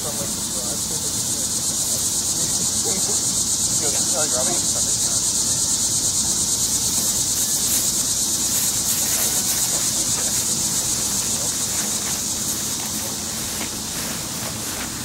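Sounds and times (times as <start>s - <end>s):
insects calling: 0.0s - 15.0s.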